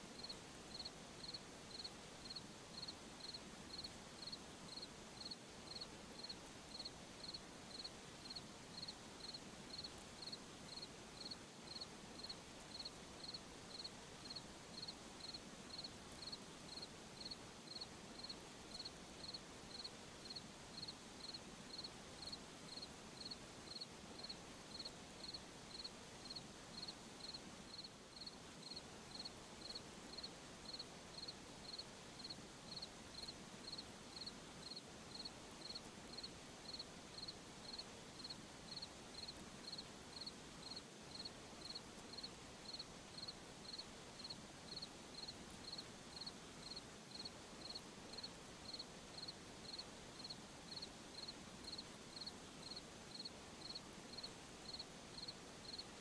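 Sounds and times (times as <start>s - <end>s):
faint night hiss: 0.0s - 56.0s
cricket chirping: 0.2s - 55.8s.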